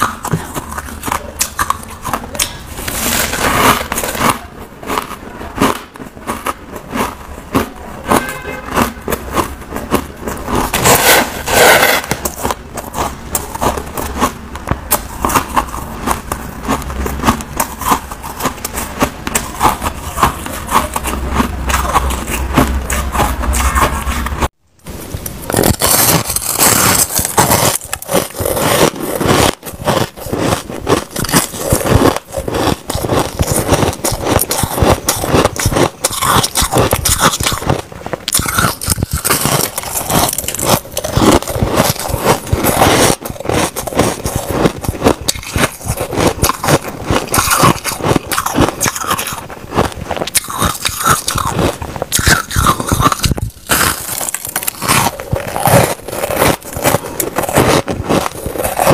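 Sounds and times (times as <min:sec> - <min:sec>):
chewing crunchy ice: 0:00.0 - 0:58.9.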